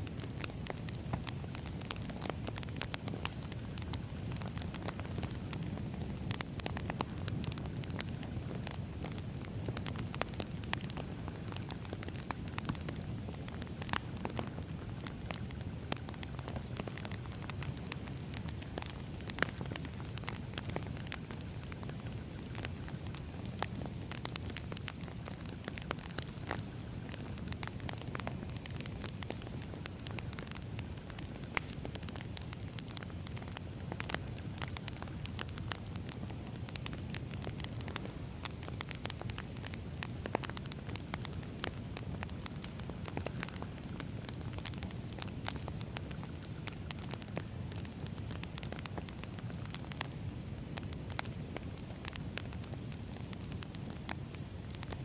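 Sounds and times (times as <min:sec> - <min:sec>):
fire crackling and popping: 0:00.0 - 0:55.0
flames rumbling: 0:00.0 - 0:55.0.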